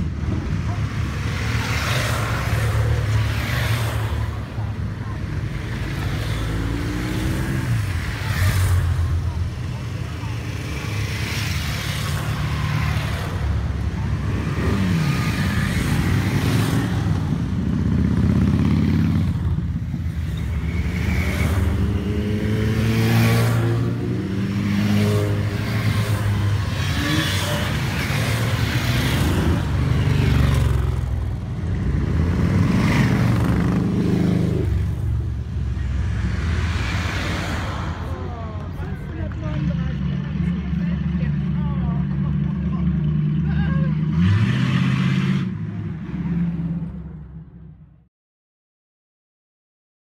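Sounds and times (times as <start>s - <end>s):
motorcycles riding past: 0.0s - 47.4s.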